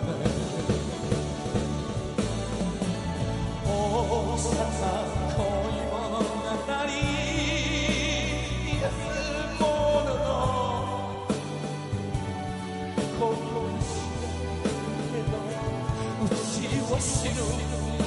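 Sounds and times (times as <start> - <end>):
band accompaniment with bass: 0.0 - 18.0.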